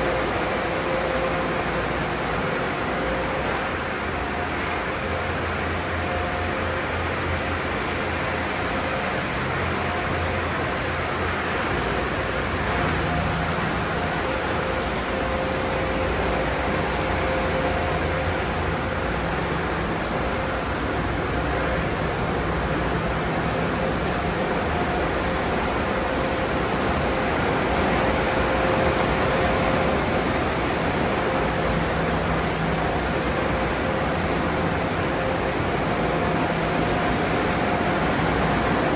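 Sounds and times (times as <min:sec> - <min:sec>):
drying blowers rushing air: 0:00.0 - 0:38.9.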